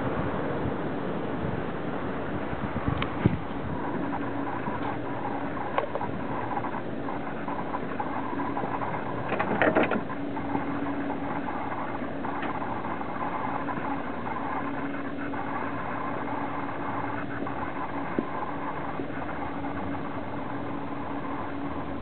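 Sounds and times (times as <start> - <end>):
car engine idling: 2.7 - 22.0
engine clatter: 2.7 - 22.0.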